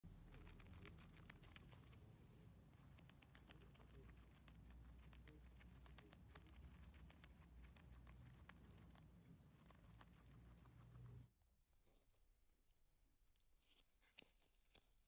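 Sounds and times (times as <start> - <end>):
guinea pig chewing greens: 0.0 - 15.0.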